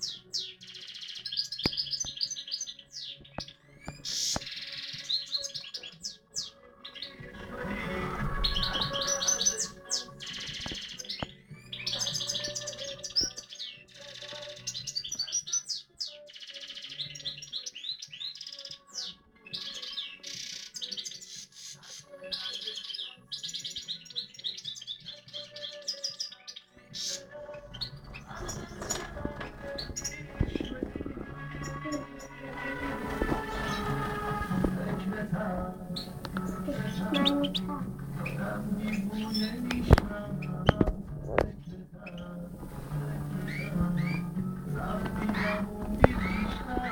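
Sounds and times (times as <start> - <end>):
goldfinch twittering song: 0.0 - 46.9.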